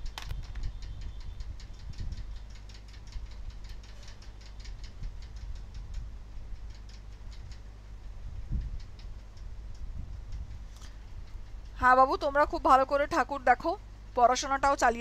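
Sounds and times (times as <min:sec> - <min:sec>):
fast ticking clicks: 0:00.0 - 0:13.8.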